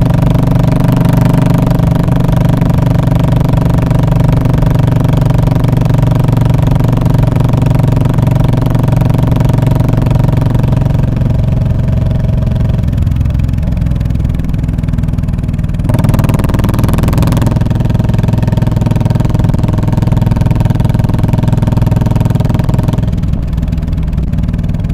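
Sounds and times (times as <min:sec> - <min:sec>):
motorcycle engine exhaust note: 0:00.0 - 0:24.9.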